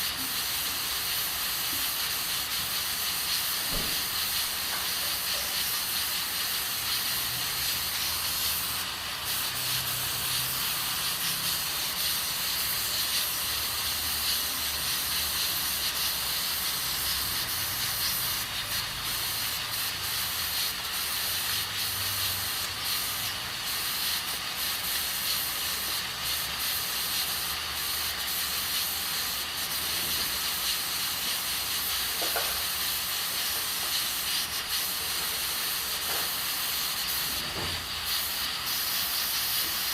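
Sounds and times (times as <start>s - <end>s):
pressure cooker hissing steam: 0.0s - 39.9s.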